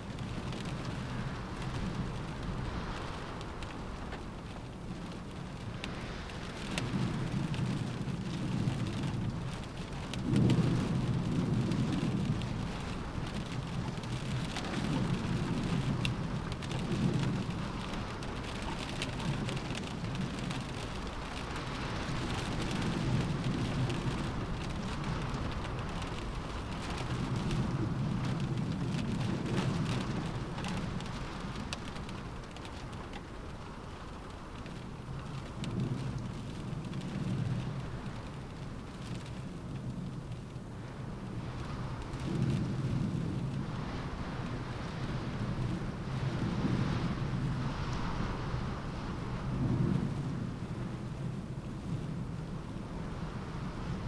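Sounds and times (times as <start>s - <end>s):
rain pattering on window glass: 0.0s - 54.0s
storm wind gusting: 0.0s - 54.0s.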